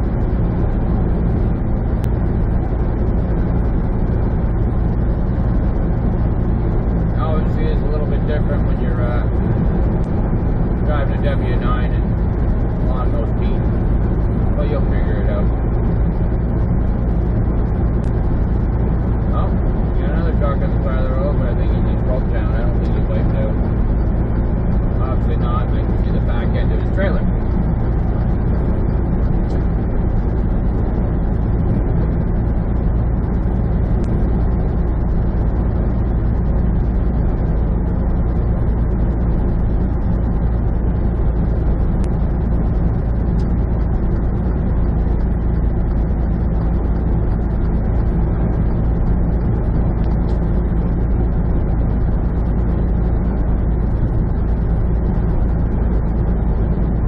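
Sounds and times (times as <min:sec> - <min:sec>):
diesel truck engine drone: 0:00.0 - 0:57.0
road noise: 0:00.0 - 0:57.0.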